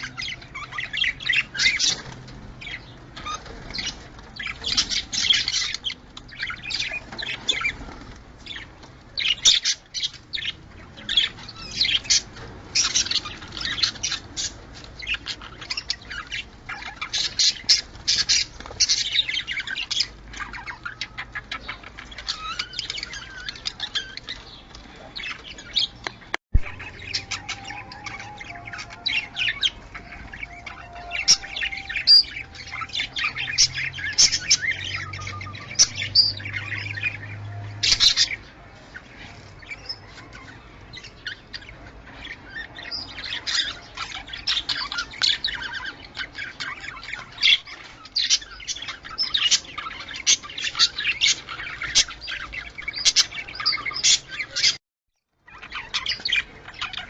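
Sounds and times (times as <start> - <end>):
budgerigars chirping: 0.0 - 54.8, 55.4 - 57.0.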